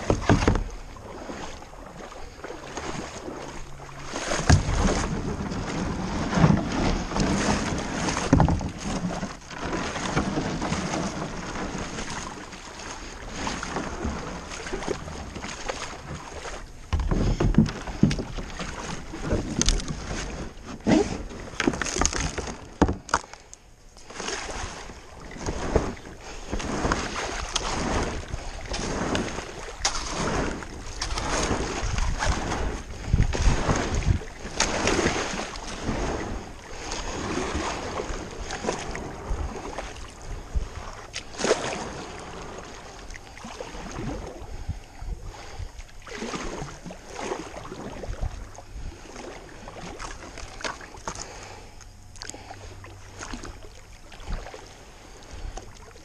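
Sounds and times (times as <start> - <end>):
paddle splashing in water: 0.0 - 56.0
water washing along hull: 0.0 - 56.0.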